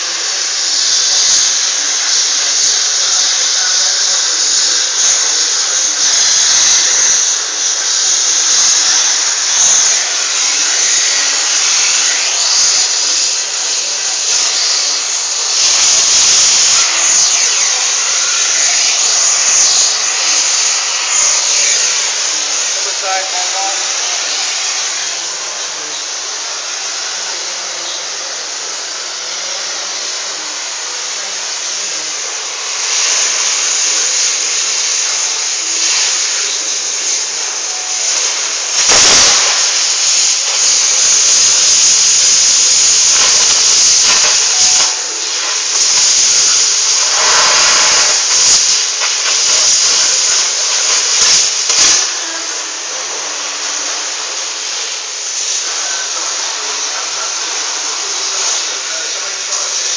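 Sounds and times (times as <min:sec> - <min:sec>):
loud hissing rush: 0:00.0 - 0:59.9.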